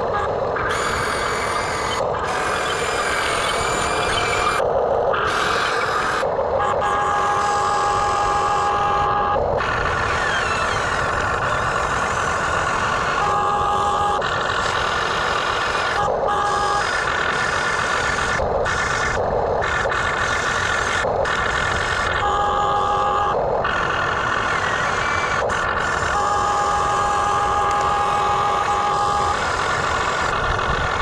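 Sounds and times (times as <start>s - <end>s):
high motor tones: 0.0s - 31.0s
toy excavator mechanical whirr: 0.0s - 31.0s.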